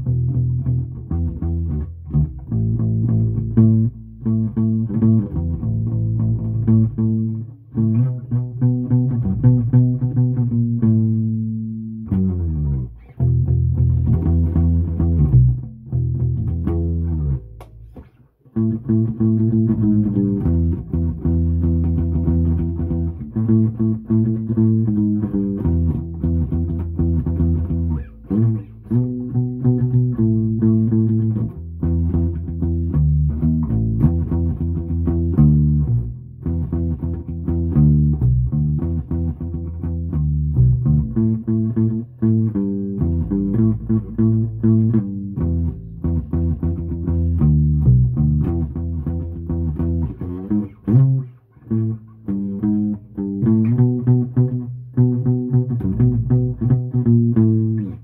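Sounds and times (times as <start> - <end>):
electric bass guitar plucked: 0.0 - 58.0.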